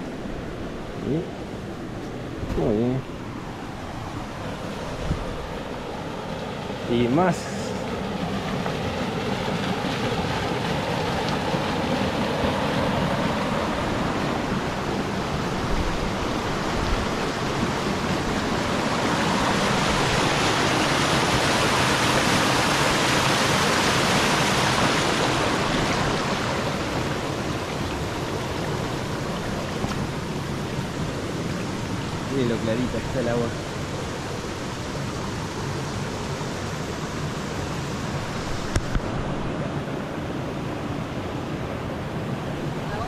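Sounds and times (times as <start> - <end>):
creek water rushing over rocks: 0.0 - 43.0.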